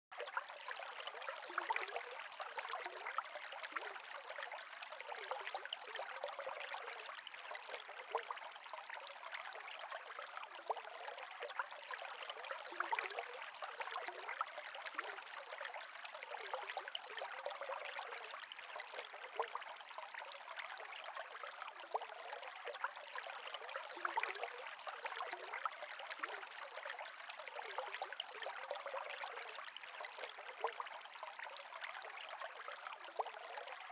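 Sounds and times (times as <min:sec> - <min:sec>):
aquarium water trickling and bubbling: 0:00.1 - 0:33.9.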